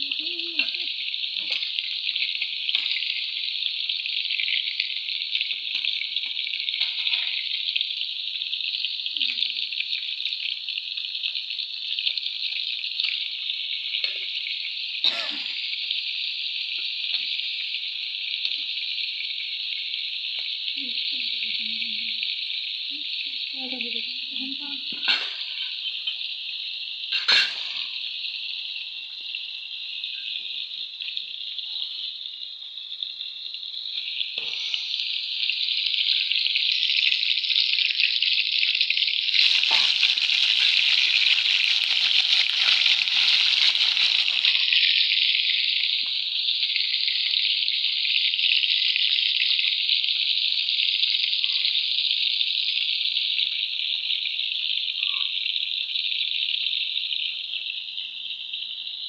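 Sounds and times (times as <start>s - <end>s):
fish frying in hot oil: 0.0s - 59.0s.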